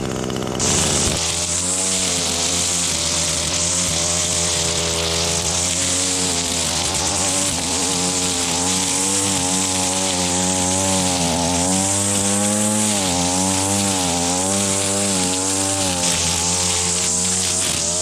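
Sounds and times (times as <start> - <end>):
small petrol engine running: 0.0 - 18.0.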